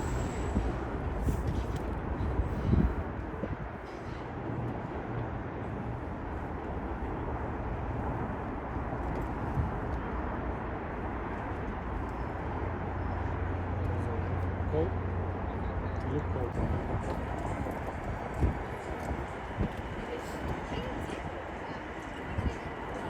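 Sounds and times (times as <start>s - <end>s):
train rumbling along tracks: 0.0s - 23.0s.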